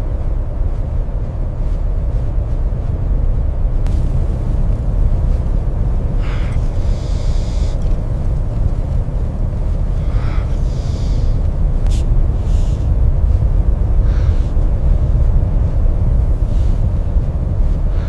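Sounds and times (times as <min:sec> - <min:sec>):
blizzard wind rumble: 0:00.0 - 0:18.0
hissing wind gusts: 0:00.2 - 0:18.0.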